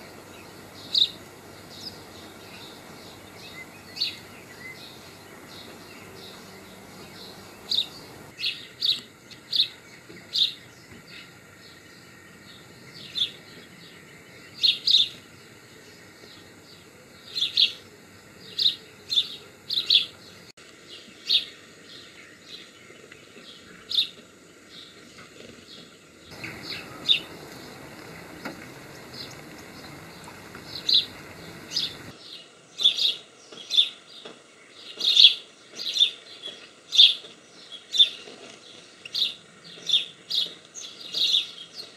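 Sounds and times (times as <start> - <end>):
small songbirds chirping: 0.0 - 41.9.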